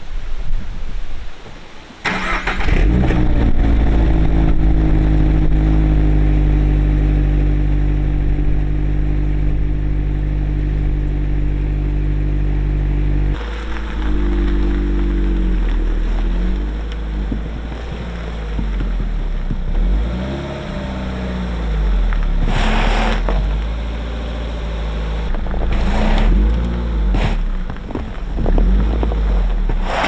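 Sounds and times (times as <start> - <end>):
car engine starting and idling: 2.0 - 30.0.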